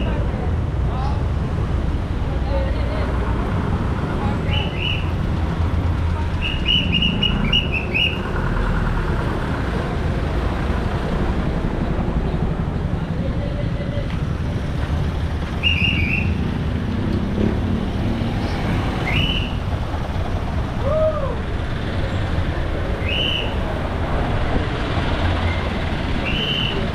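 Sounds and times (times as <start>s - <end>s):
traffic rumble: 0.0s - 26.9s.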